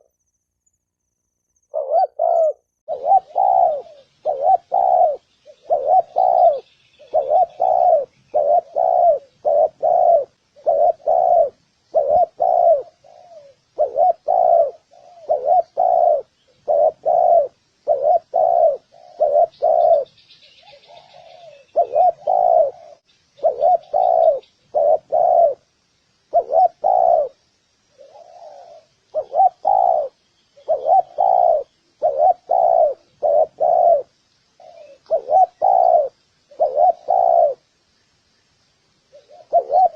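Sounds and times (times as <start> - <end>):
small birds chirping: 0.0 - 39.9
dove cooing: 1.7 - 25.7, 26.3 - 37.7, 39.1 - 39.9.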